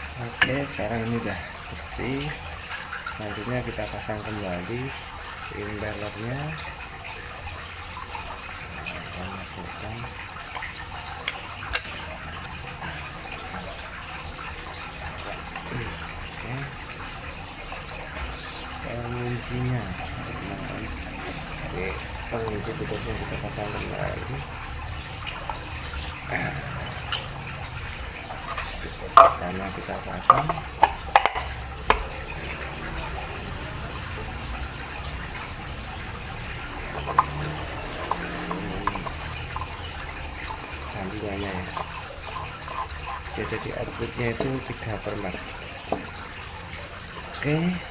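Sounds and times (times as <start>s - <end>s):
running water: 0.0s - 47.9s.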